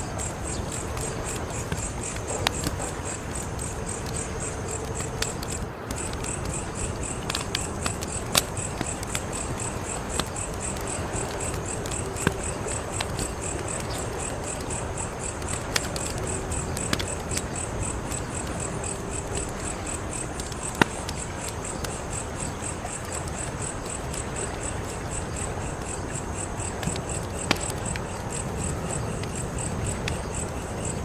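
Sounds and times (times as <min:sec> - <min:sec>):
cricket chirping: 0:00.0 - 0:31.0
wood fire crackling: 0:00.0 - 0:31.0.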